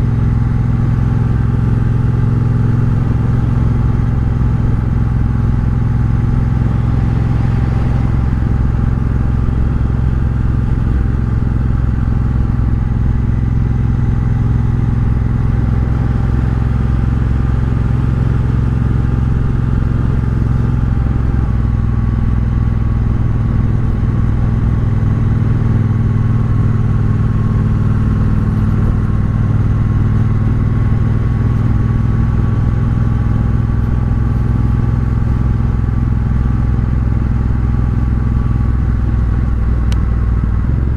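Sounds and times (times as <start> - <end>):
motorcycle engine riding: 0.0 - 40.9.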